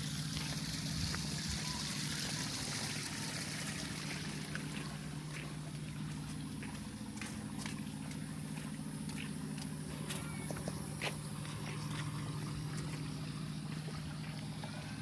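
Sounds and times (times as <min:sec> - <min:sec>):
running water: 0:00.0 - 0:10.0, 0:11.3 - 0:15.0
steady low hum: 0:00.0 - 0:15.0.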